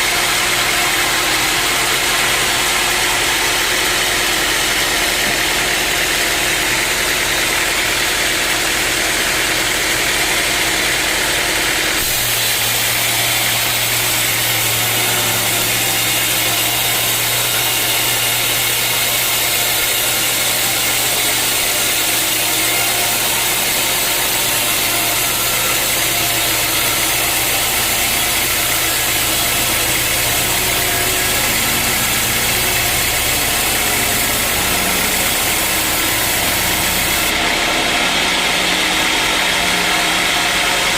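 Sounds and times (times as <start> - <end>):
sawmill engine humming: 0.0 - 40.9.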